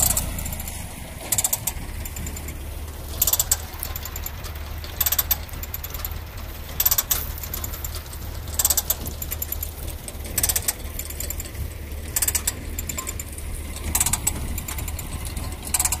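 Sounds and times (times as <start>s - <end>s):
engine low hum: 0.0s - 16.0s
ratchet-like clicking: 0.0s - 16.0s.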